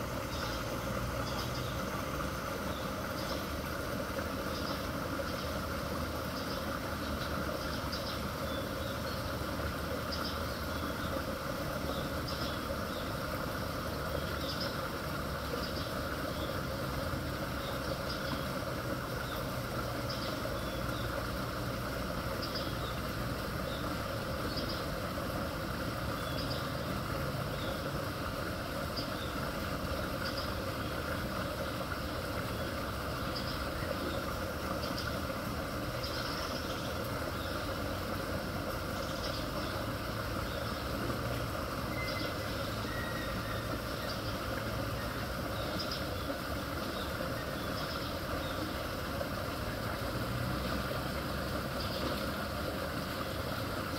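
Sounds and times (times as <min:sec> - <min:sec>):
floodwater rushing into pipe: 0:00.0 - 0:53.9.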